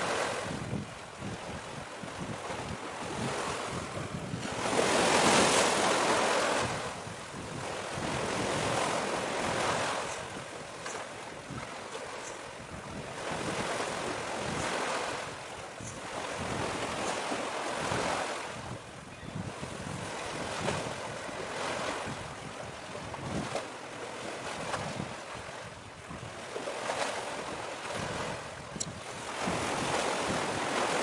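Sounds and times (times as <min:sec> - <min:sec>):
sea waves washing ashore: 0:00.0 - 0:31.0
wind buffeting microphone: 0:00.0 - 0:31.0.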